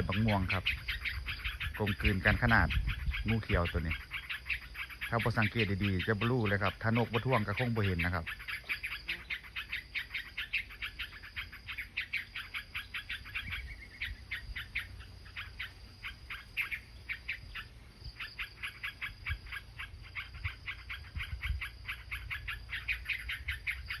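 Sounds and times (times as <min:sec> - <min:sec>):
bird alarm calls: 0:00.0 - 0:24.0
high insect whine: 0:00.0 - 0:24.0.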